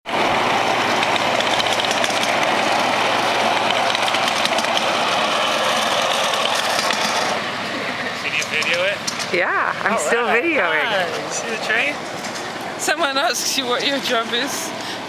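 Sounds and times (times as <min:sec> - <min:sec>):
miniature train rattling: 0:00.1 - 0:09.4, 0:11.2 - 0:15.0.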